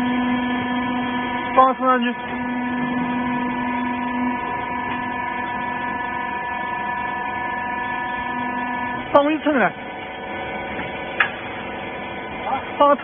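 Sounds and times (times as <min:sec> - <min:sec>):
hydraulic power unit humming: 0:00.0 - 0:13.0.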